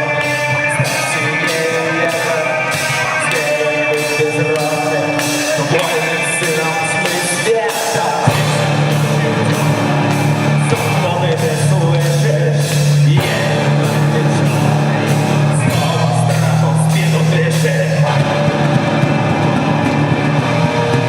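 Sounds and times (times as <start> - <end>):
heavy low bass: 0.0 - 21.0
rock music with singing: 0.0 - 21.0.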